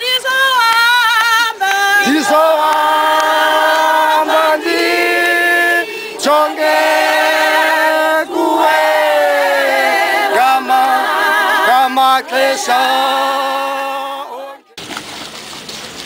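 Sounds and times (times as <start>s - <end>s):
choir singing a cappella: 1.5s - 14.7s.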